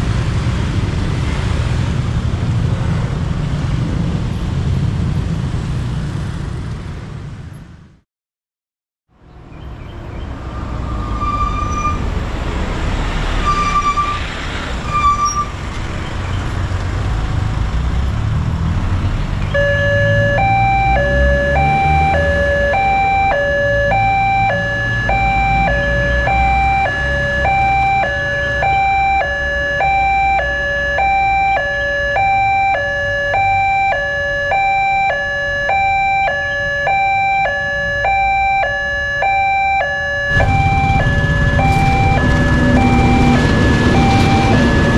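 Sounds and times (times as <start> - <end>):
road traffic rumble: 0.0 - 8.0, 9.1 - 44.9.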